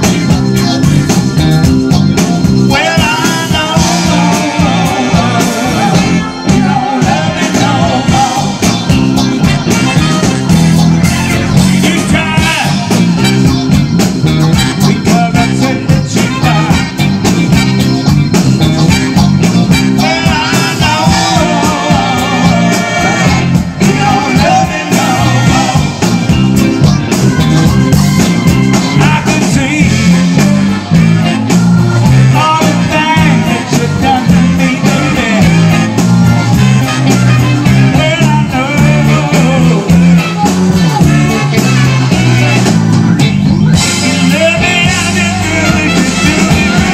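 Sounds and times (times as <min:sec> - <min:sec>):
drum kit: 0:00.0 - 0:46.9
electric bass: 0:00.0 - 0:46.9
electric guitars: 0:00.0 - 0:46.9
organ: 0:00.0 - 0:46.9.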